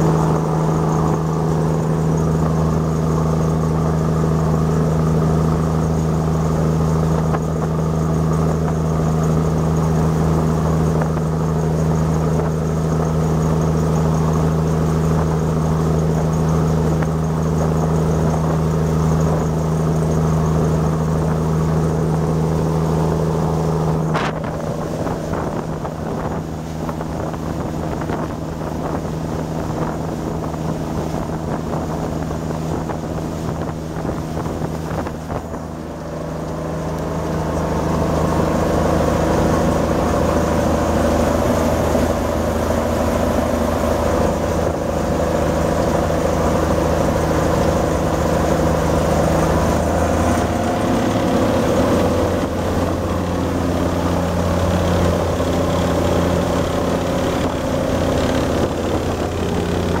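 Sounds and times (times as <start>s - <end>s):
marine diesel engine running: 0.0s - 60.0s
water rushing past hull: 0.0s - 60.0s.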